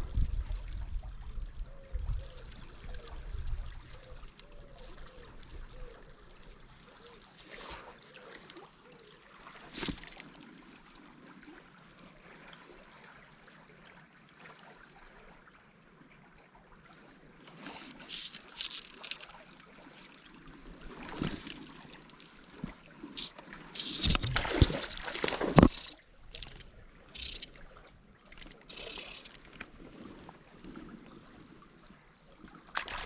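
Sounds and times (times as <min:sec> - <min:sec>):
river water trickling: 0:00.0 - 0:33.0.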